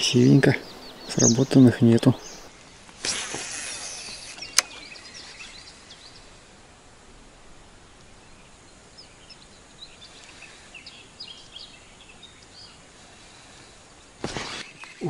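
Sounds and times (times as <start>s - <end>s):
small birds chirping: 0.0s - 6.8s, 7.5s - 15.0s
faint outdoor hiss: 0.0s - 15.0s.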